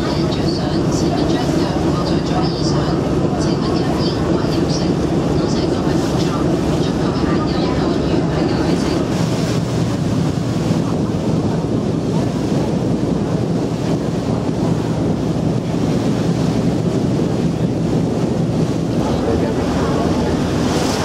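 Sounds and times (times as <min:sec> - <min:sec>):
water rushing past hull: 0:00.0 - 0:21.0
wind buffeting microphone: 0:00.0 - 0:21.0.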